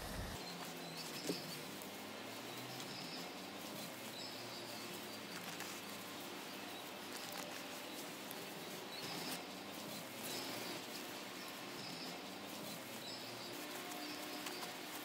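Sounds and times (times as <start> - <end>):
faint fabric rustling: 0.0 - 15.0.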